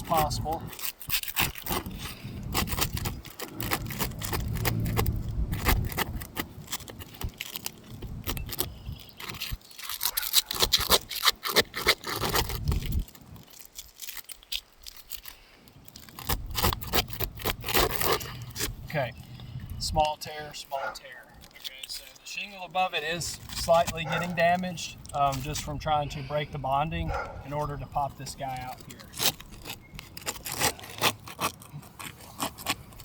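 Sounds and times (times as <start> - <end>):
metal tools scraping under shingles: 0.0 - 33.0.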